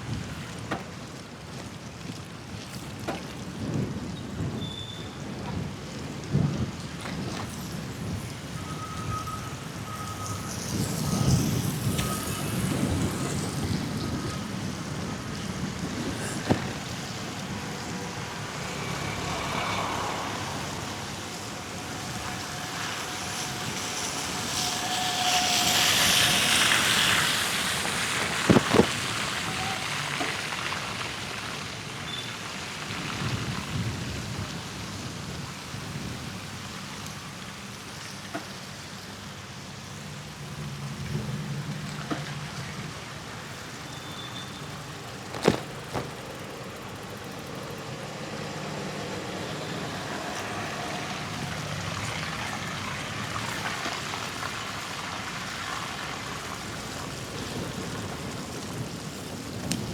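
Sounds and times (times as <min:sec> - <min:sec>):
wind rumbling on microphone: 0:00.0 - 0:38.1, 0:44.6 - 0:59.9
bicycle tyres hissing on wet street: 0:00.0 - 0:59.9.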